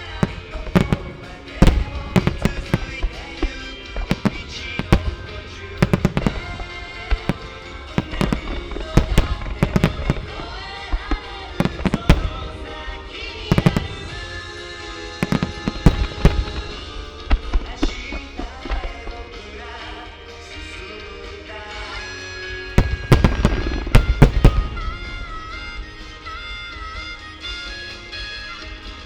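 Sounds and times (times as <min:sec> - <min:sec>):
fireworks bursting: 0:00.0 - 0:29.0
music playing: 0:00.0 - 0:29.0.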